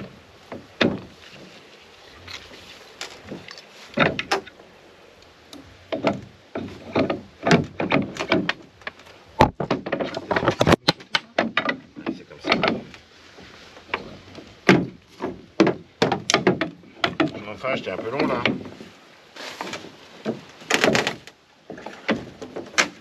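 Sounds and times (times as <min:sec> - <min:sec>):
oars and metal outriggers clattering: 0:00.0 - 0:23.0.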